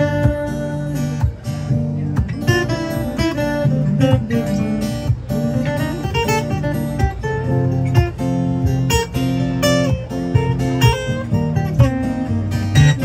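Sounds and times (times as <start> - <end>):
acoustic guitars strumming chords: 0.0 - 13.0.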